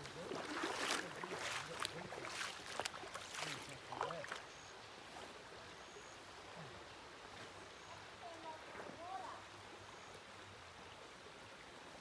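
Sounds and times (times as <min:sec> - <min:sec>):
creek water rushing over stones: 0:00.0 - 0:12.0.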